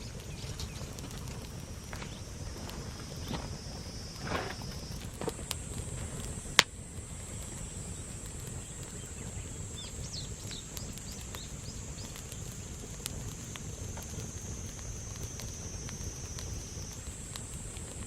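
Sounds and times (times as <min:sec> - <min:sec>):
campfire crackling: 0:00.0 - 0:18.0
insect trill: 0:00.0 - 0:18.0.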